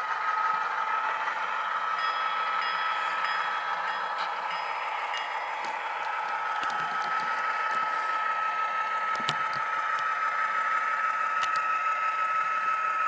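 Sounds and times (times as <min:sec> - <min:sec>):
model locomotive engine hum and whine: 0:00.0 - 0:13.0.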